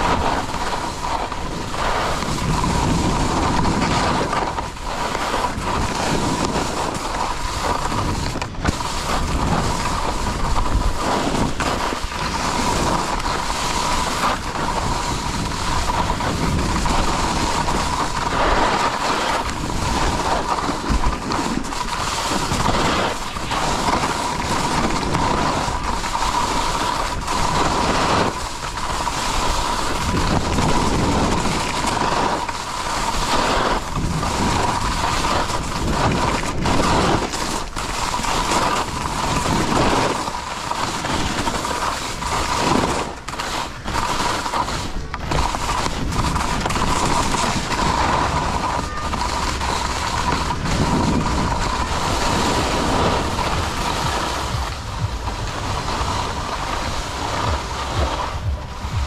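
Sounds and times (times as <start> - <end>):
skis scraping over snow: 0.0 - 59.0
wind buffeting microphone: 0.0 - 59.0.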